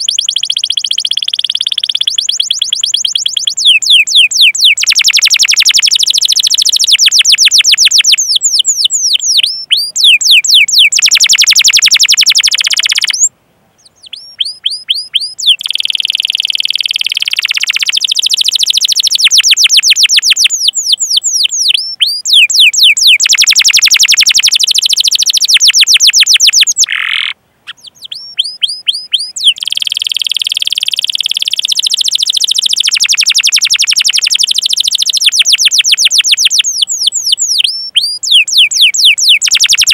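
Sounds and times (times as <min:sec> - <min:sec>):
canary singing chirps and trills: 0:00.0 - 0:39.9.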